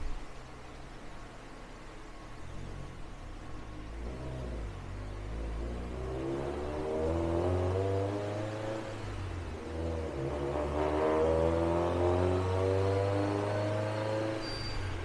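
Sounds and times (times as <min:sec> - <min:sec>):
turbocharged engine under load: 0:00.0 - 0:15.0.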